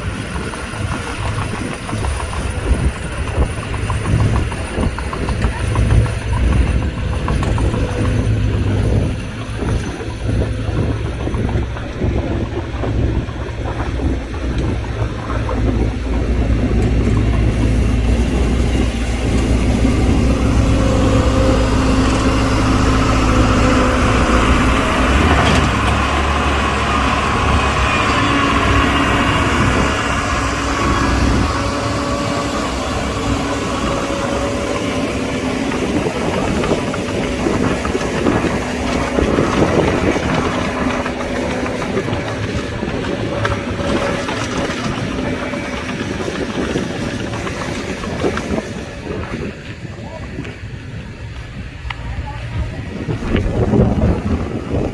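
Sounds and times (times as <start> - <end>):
construction machinery diesel engines: 0.0 - 54.9
deep rumble: 0.0 - 54.9.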